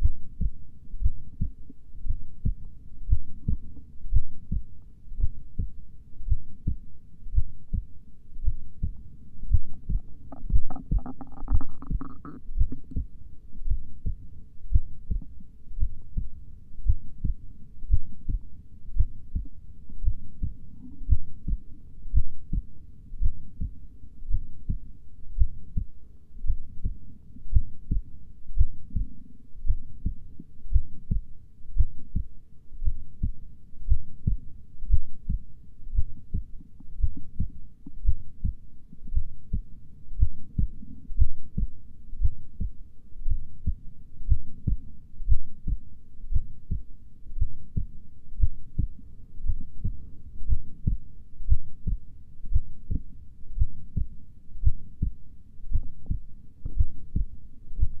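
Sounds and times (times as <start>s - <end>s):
heartbeat thumps: 0.0s - 58.0s.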